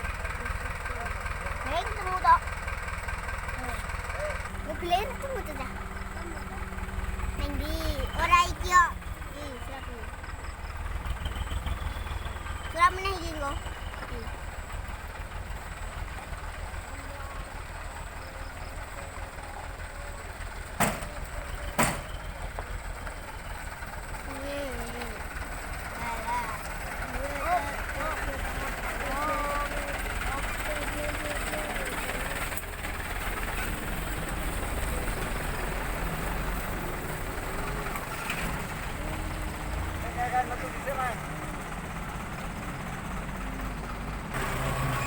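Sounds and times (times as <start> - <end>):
faint voices: 0.0 - 10.4, 12.4 - 45.0
heavy vehicle engine rumbling: 0.0 - 45.0.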